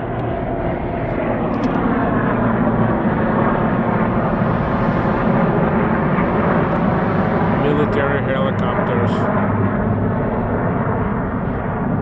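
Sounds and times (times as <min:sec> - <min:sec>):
helicopter rotor and engine noise: 0:00.0 - 0:12.0.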